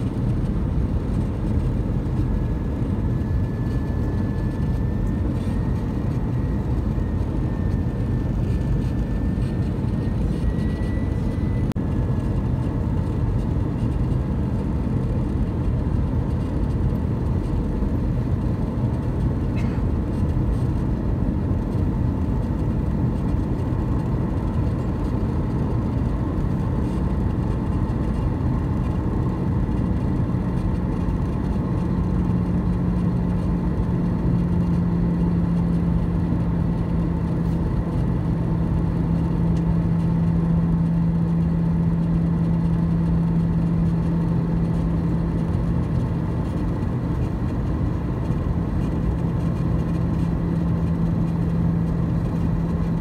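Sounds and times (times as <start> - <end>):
aircraft engine rumble: 0.0 - 53.0
low engine hum: 0.0 - 53.0.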